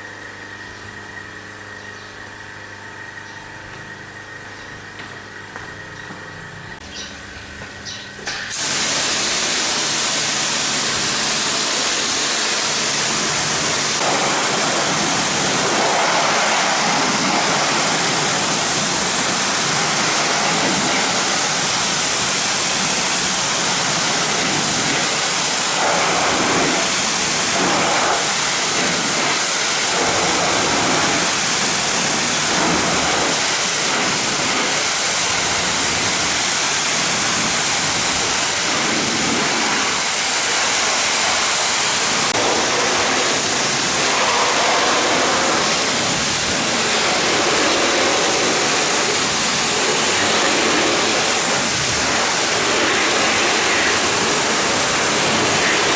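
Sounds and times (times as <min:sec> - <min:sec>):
pressure washer spraying: 0:08.3 - 0:55.9.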